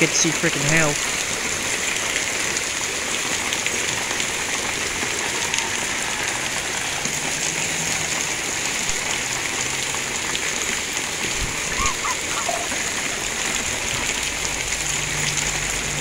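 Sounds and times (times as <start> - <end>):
hail and rain pattering: 0.0 - 16.0.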